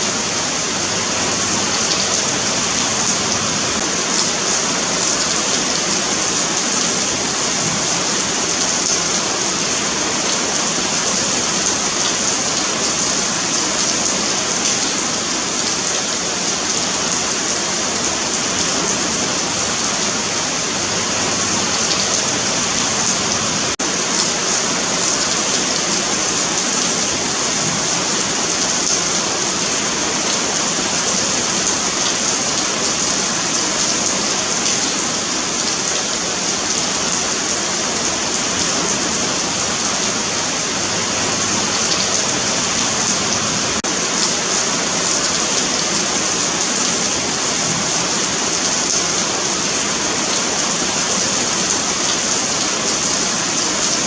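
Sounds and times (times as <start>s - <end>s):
rain falling on pavement: 0.0s - 54.0s.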